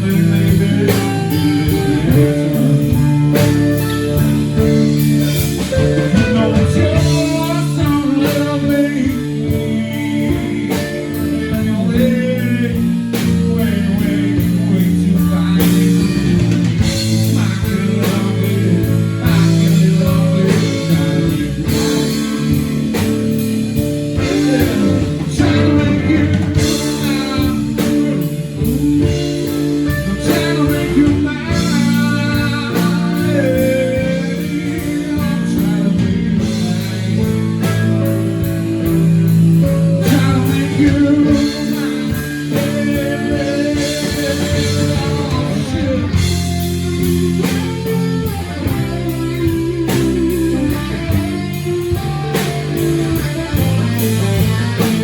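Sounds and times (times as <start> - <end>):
drums: 0.0 - 55.0
electric guitar: 0.0 - 55.0
live band playing: 0.0 - 55.0.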